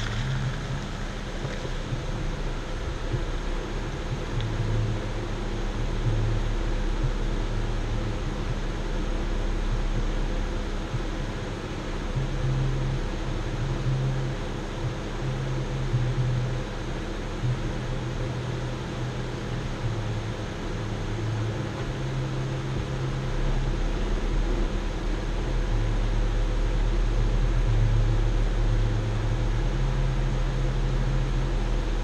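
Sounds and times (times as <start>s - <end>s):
engine running low hum: 0.0s - 32.0s
steady rushing noise: 0.0s - 32.0s.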